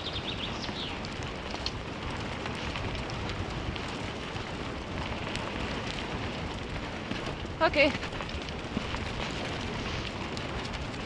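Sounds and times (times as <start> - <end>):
wheels rolling over dirt: 0.0 - 11.0
wind on microphone: 0.0 - 11.0
grit ticks: 0.3 - 11.0.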